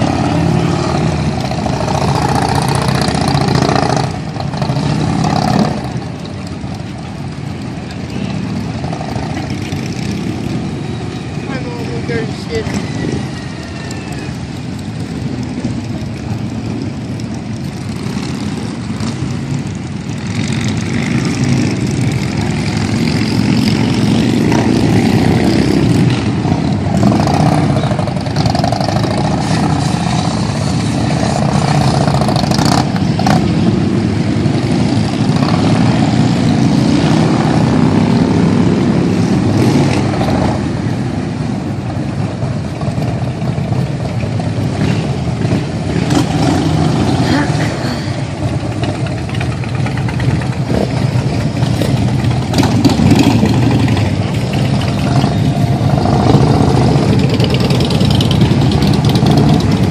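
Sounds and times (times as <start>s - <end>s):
motorcycle engines blipping throttle: 0.0s - 59.9s.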